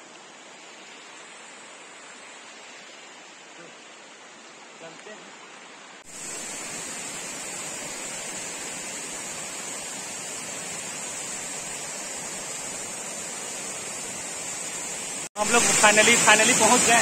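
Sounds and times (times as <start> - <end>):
water rushing over rocks: 0.1 - 17.0.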